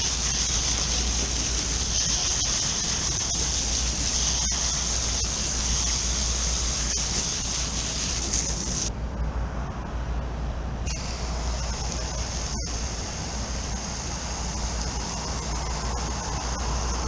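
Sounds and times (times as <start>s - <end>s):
garden hose spraying water: 0.0s - 8.9s, 10.9s - 17.0s.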